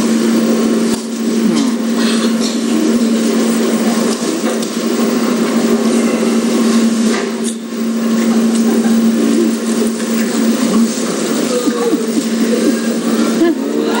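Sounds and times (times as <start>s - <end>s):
loud low hum: 0.0s - 14.0s.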